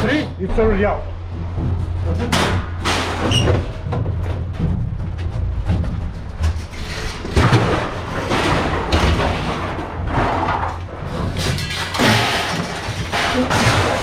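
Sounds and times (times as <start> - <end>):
heavy scrap thumping and knocking: 0.0 - 14.0
scrap scraping and clattering: 0.0 - 14.0.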